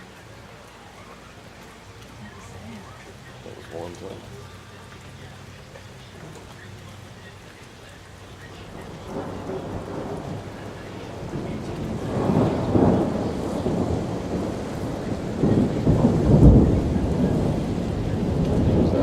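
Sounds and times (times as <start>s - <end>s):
thunder rumbling: 2.2s - 19.0s.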